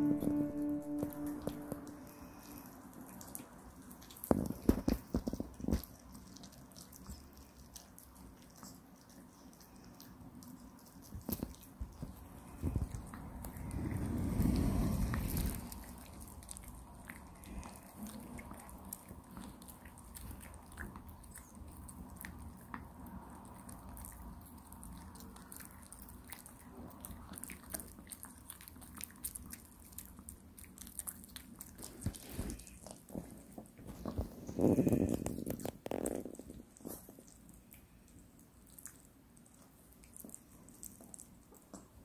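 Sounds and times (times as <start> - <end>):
dog gnawing a chew stick: 2.6 - 42.0.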